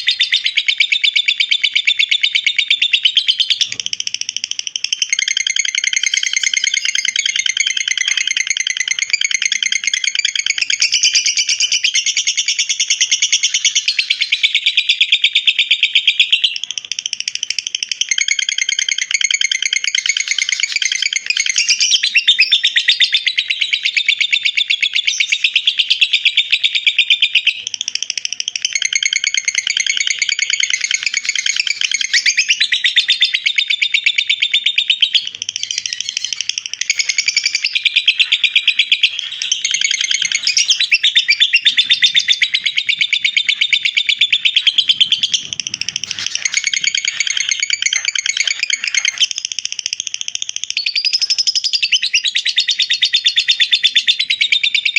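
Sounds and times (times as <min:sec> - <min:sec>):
lovebird chattering trill: 0:00.0 - 0:54.9.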